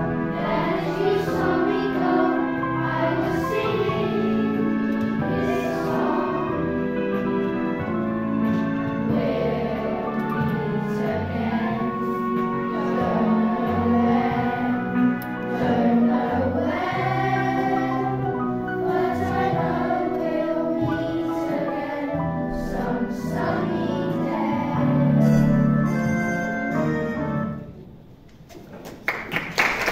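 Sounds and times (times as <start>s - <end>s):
children singing: 0.0s - 25.8s.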